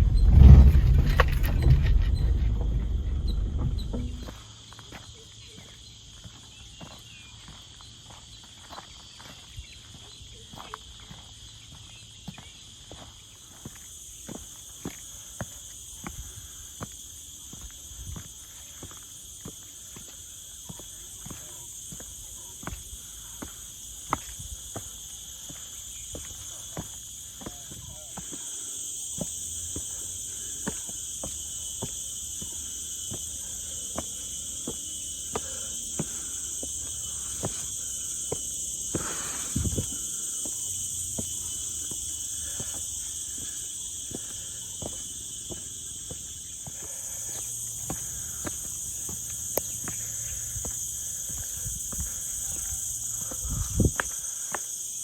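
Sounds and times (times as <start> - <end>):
footsteps on trail: 0.0 - 55.0
shrill insect chorus: 0.0 - 55.0.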